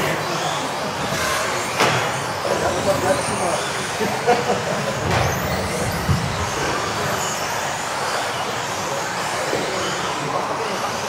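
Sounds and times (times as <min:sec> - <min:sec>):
rc cars racing: 0:00.0 - 0:11.0.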